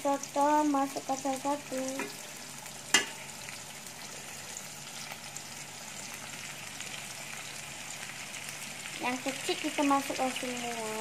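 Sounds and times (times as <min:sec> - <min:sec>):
squid sizzling in a wok: 0:00.0 - 0:11.0.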